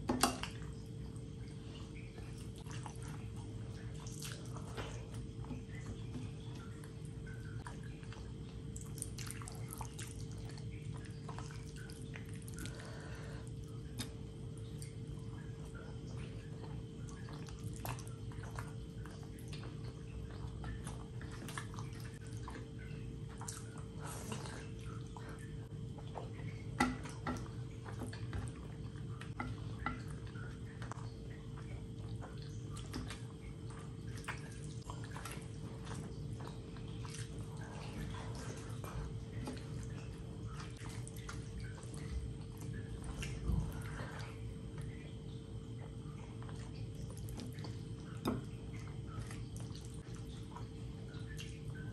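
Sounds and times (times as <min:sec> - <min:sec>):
steady low hum: 0:00.0 - 0:51.9
wet eating with fingers: 0:00.1 - 0:51.9.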